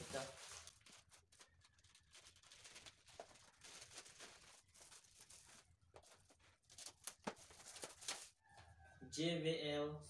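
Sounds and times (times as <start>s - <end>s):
plastic crinkling: 0.0s - 8.4s
plastic pouch rustling and tearing: 0.0s - 8.4s.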